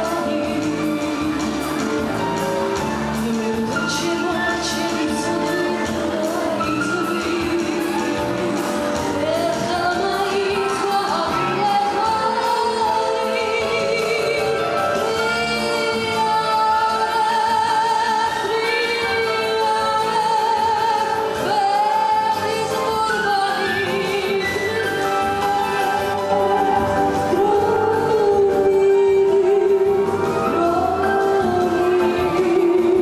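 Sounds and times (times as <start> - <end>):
musical accompaniment: 0.0 - 33.0
woman singing with vibrato: 0.0 - 33.0.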